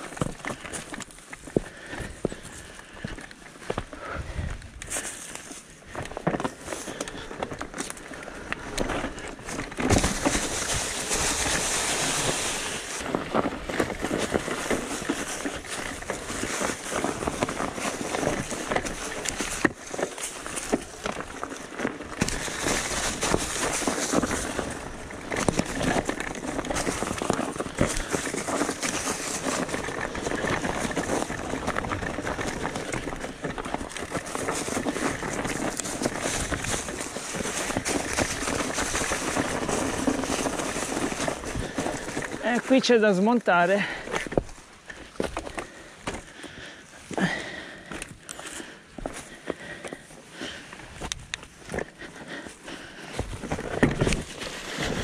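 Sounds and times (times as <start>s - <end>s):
tyres rolling over rough ground: 0.0s - 55.0s.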